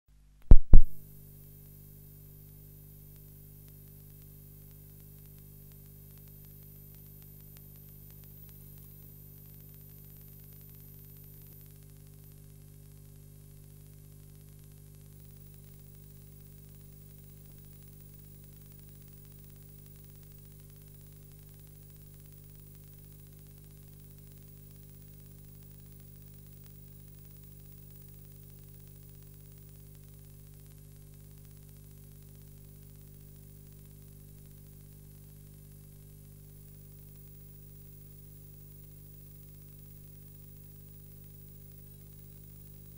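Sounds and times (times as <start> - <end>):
electrical mains hum: 0.5 - 42.9.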